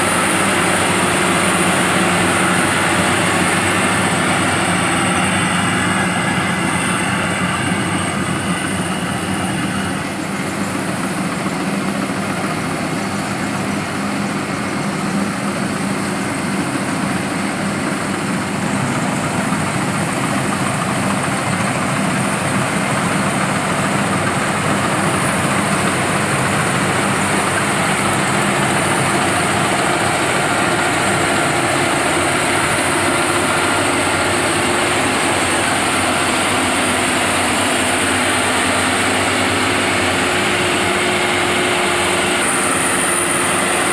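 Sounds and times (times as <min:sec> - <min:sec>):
harvesting machine engine running: 0:00.0 - 0:43.9.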